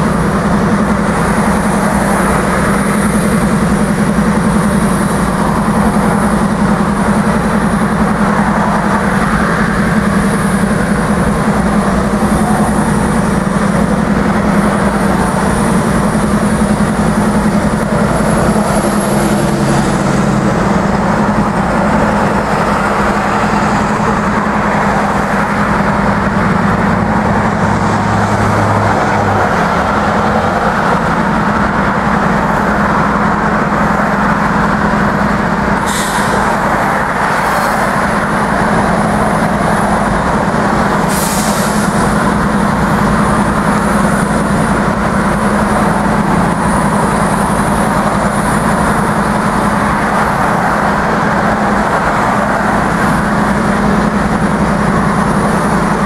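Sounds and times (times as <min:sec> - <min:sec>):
locomotive engine drone: 0:00.0 - 0:56.0
road traffic: 0:00.0 - 0:56.0.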